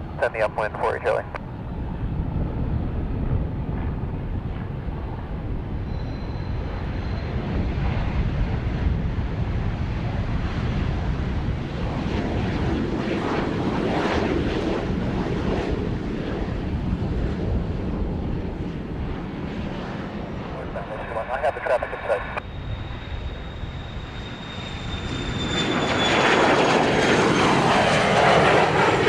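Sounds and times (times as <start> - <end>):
aircraft engine rush: 0.0 - 29.0.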